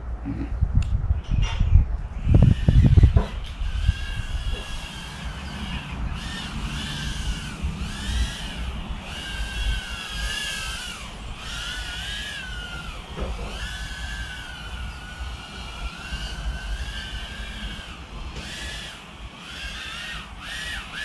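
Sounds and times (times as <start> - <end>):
small drone motors whining: 1.3 - 21.0.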